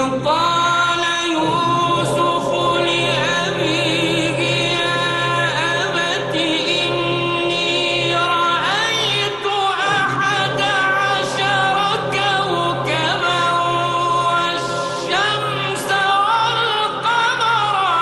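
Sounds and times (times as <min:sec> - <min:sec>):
person singing long wavering notes: 0:00.0 - 0:18.0
steady low drone: 0:00.0 - 0:18.0.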